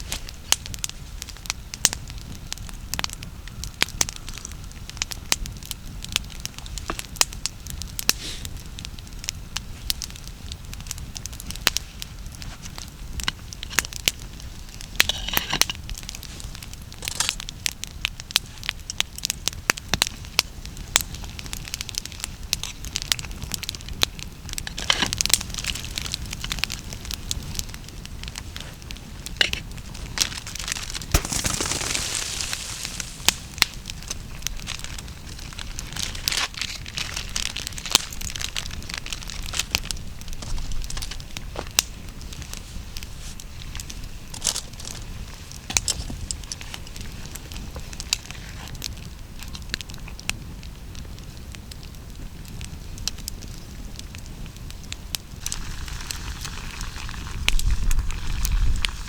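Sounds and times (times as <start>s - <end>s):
campfire crackling and popping: 0.0s - 59.0s
fire low rumble: 0.0s - 59.0s.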